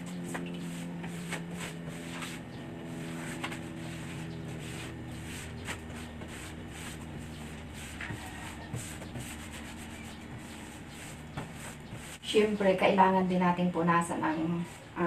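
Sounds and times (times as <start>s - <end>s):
low hum: 0.0s - 13.5s.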